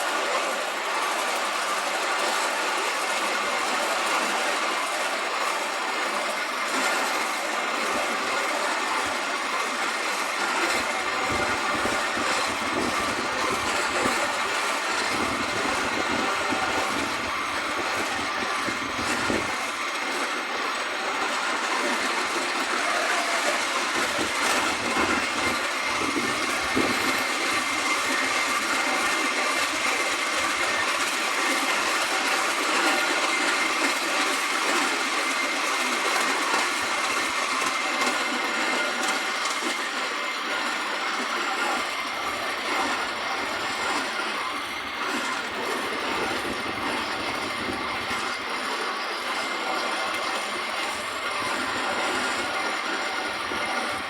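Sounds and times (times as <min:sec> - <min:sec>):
miniature train rolling on track: 0:00.0 - 0:54.0.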